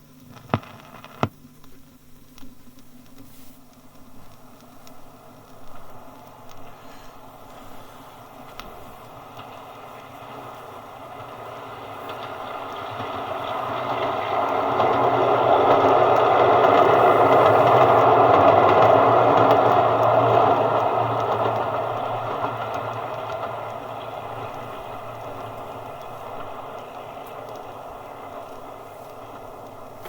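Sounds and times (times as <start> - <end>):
train passing by: 3.8 - 30.0
train wheels clattering on rails: 4.3 - 30.0.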